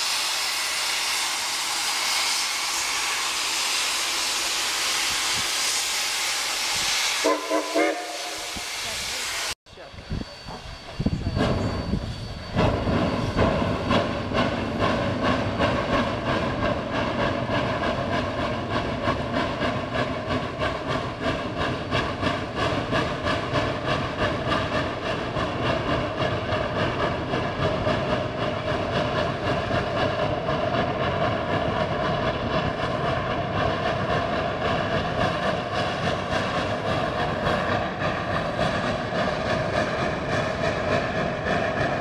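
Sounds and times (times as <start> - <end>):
steam locomotive exhaust chuffs: 0.0 - 42.0.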